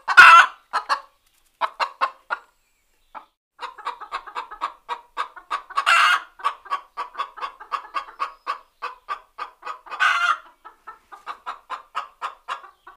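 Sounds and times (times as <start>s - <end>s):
hen clucking: 0.0s - 12.9s.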